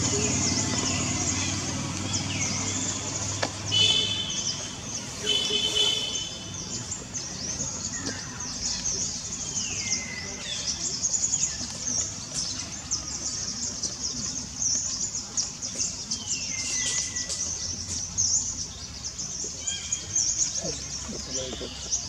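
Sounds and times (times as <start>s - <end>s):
birds and insects chirping: 0.0s - 22.0s.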